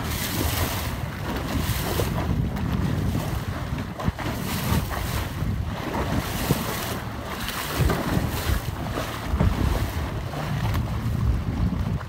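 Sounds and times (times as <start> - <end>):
sea water rushing along hull: 0.0 - 12.0
wind buffeting microphone: 0.0 - 12.0.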